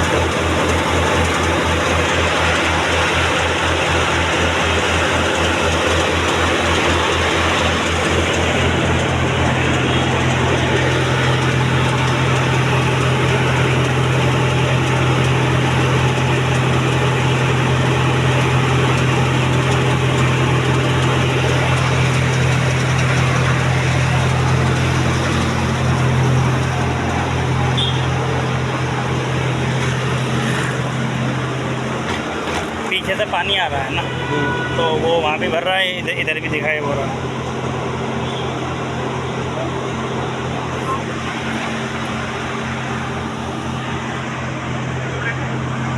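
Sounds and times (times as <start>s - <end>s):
tractor engine humming: 0.0s - 45.9s.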